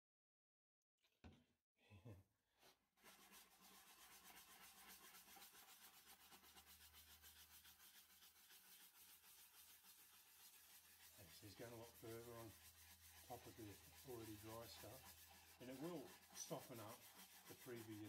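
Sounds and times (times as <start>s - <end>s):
cloth rubbing on turning wood: 2.6s - 18.0s.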